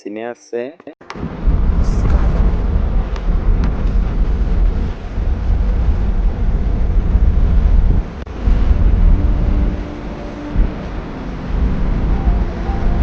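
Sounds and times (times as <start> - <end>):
car road noise: 1.0 - 13.0
wind rumble on microphone: 1.1 - 13.0.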